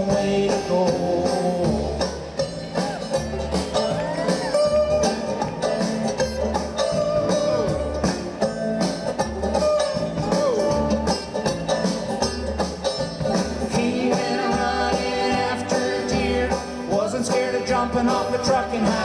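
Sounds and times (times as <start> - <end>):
banjo picking: 0.0 - 19.0
drums and bass: 0.0 - 19.0.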